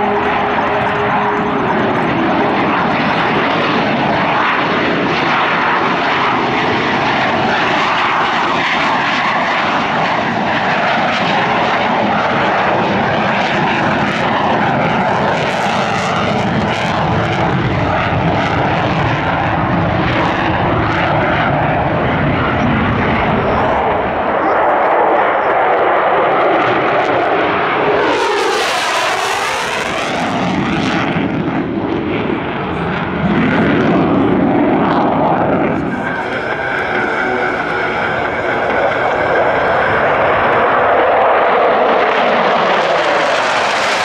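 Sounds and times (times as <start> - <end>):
aircraft engine running: 0.0 - 44.0.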